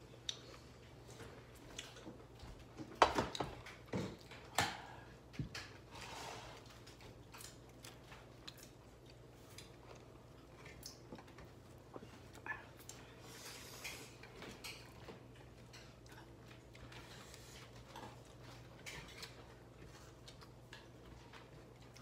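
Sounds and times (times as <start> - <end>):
faint clicks of eating: 0.1 - 22.0.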